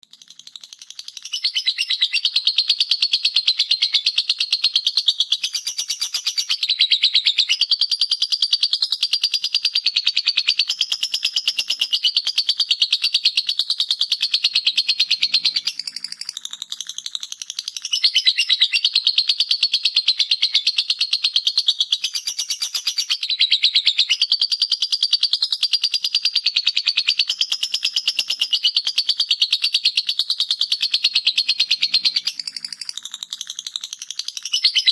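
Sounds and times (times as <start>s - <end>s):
lovebird chattering: 0.1s - 34.9s.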